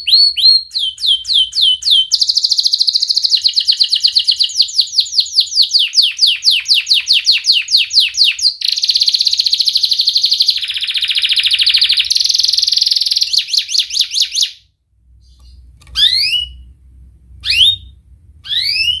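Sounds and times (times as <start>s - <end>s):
canary singing trills: 0.0s - 16.7s, 17.4s - 19.0s
sweeping bird chirps: 0.0s - 16.7s, 17.4s - 19.0s.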